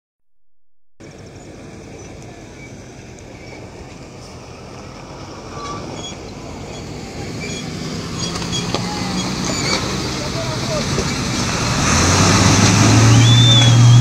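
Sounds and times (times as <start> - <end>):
truck engine running: 1.0 - 14.0.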